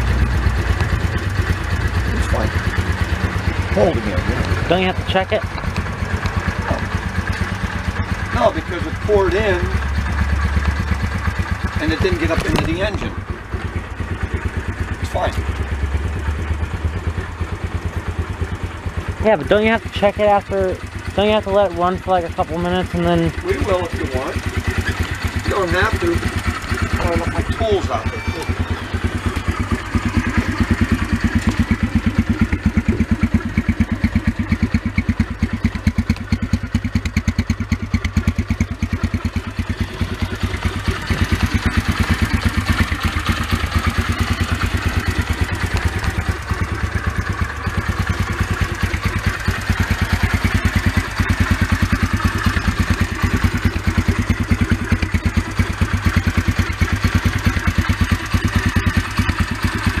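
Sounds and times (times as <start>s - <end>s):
motorcycle engine idling: 0.0s - 60.0s.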